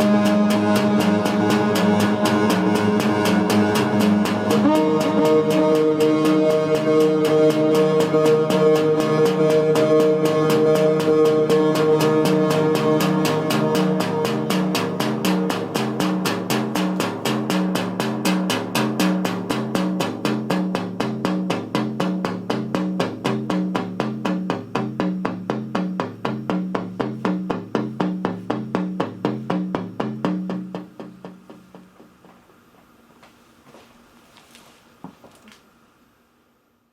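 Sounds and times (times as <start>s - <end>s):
synthesizer sequenced pattern: 0.0s - 31.9s.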